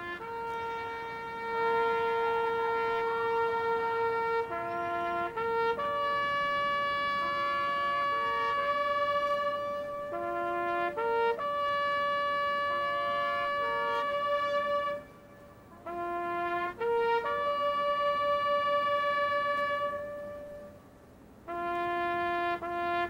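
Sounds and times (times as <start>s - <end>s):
solo trumpet slow melody: 0.0s - 23.0s.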